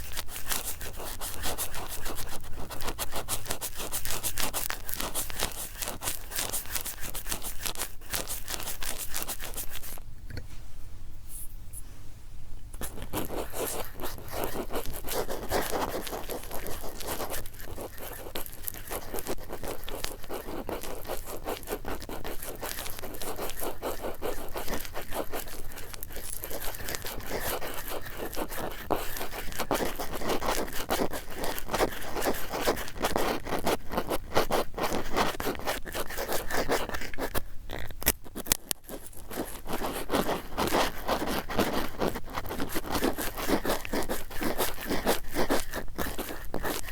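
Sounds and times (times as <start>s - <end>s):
cotton swabs scraping: 0.0s - 10.0s, 12.8s - 46.9s.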